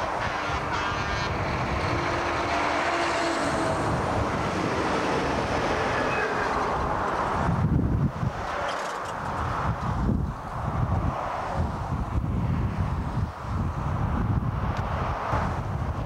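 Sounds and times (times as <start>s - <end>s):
diesel truck engines rumbling: 0.0s - 16.0s.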